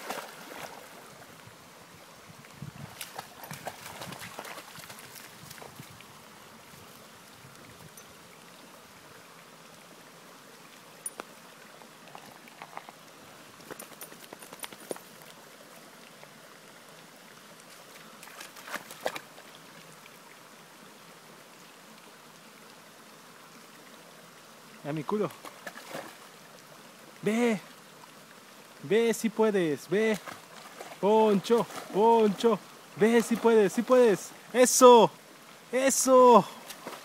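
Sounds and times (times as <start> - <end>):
stream trickling over rocks: 0.0 - 37.0.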